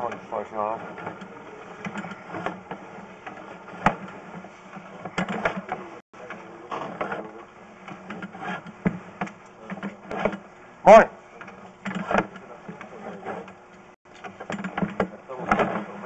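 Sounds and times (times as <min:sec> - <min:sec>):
cable reel clicking and rattling: 0:00.0 - 0:10.5, 0:11.4 - 0:16.0.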